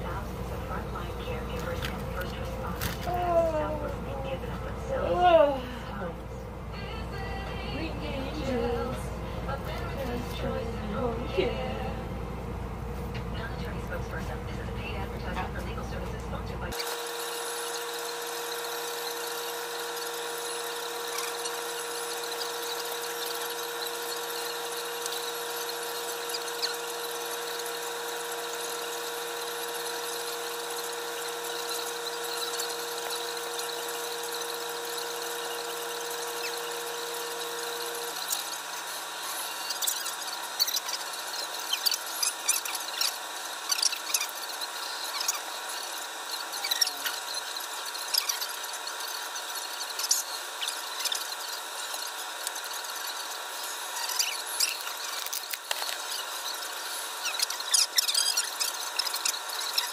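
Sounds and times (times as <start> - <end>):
steady whine and hiss: 0.0 - 59.9.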